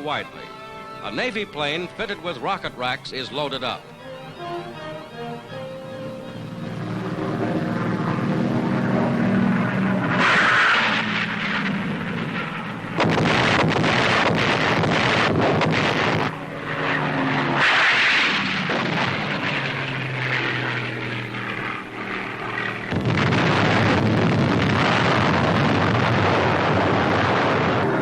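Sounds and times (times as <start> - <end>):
piston plane engine droning: 0.0 - 28.0
loud rushing noise: 4.8 - 28.0.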